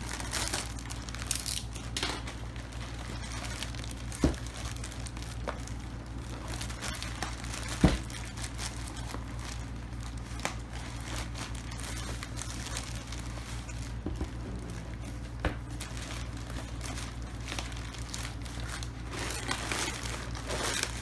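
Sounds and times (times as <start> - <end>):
packaging crinkling: 0.0 - 21.0
steady low hum: 0.0 - 21.0.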